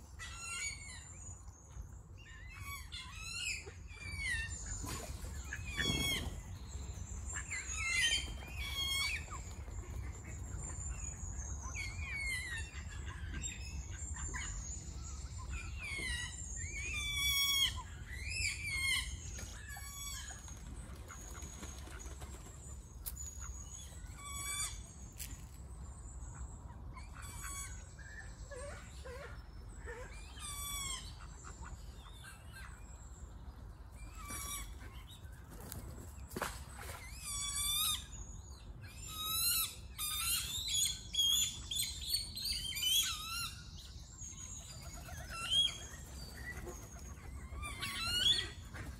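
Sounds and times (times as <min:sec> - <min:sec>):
birds chirping and calling: 0:00.0 - 0:48.9.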